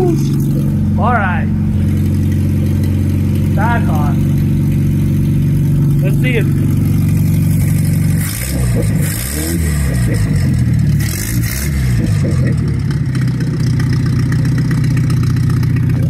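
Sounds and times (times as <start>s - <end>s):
pickup engine revving and idling: 0.0s - 16.0s.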